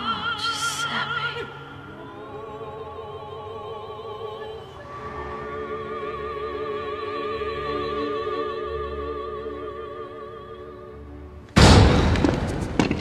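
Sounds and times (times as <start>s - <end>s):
person singing opera: 0.0s - 11.0s.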